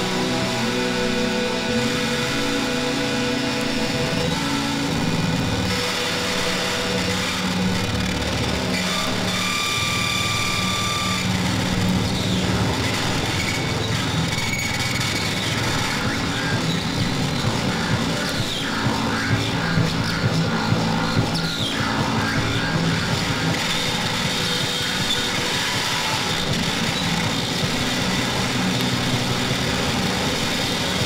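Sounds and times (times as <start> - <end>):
noisy droning music: 0.0 - 31.0.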